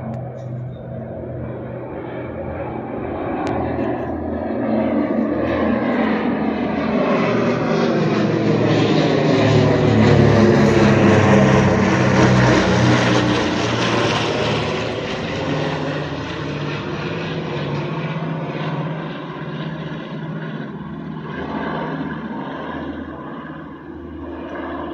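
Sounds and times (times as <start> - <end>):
propeller plane engines droning: 0.0 - 24.9.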